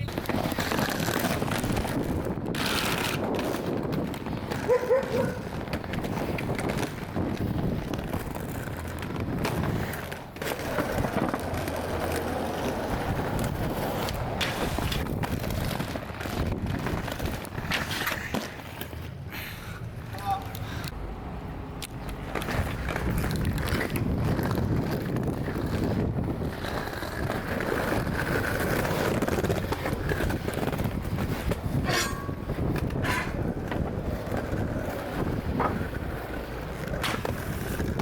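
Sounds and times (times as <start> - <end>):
skateboard clacks: 0.0 - 19.1, 21.7 - 38.0
skateboard wheels rolling: 0.0 - 38.0.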